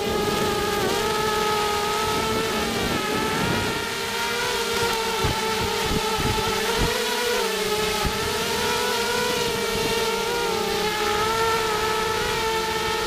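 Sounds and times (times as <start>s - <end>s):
drone motors and propellers whining: 0.0s - 13.0s.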